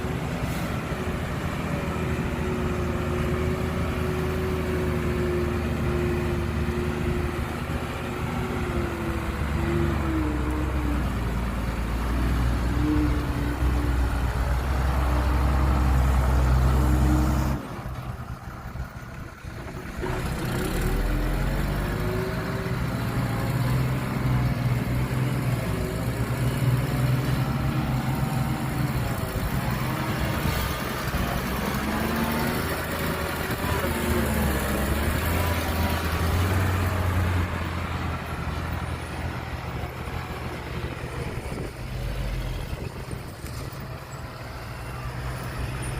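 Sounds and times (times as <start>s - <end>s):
heavy diesel engines running: 0.0s - 45.9s.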